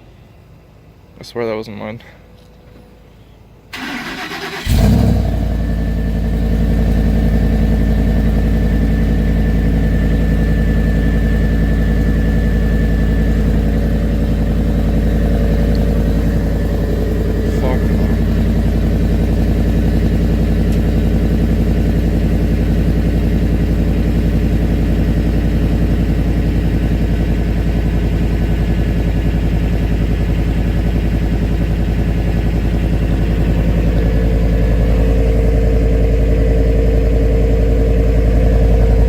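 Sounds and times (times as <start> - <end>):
car engine idling: 2.3 - 39.0.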